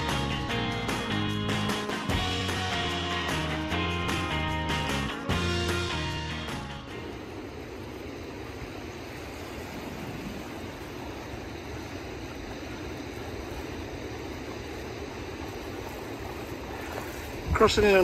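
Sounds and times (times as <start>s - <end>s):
river water rushing around legs: 0.0s - 18.0s.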